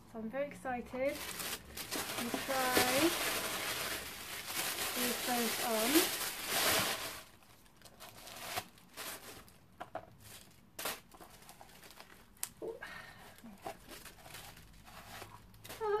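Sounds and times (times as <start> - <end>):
paper rustling and crinkling: 1.1 - 12.4, 13.3 - 16.0.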